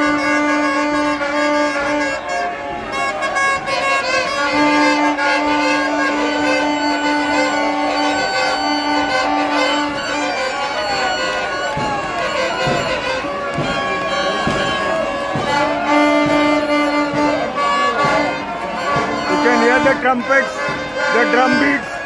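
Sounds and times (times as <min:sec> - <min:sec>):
large crowd noise: 0:00.0 - 0:22.0
trumpets blowing held notes: 0:00.0 - 0:22.0.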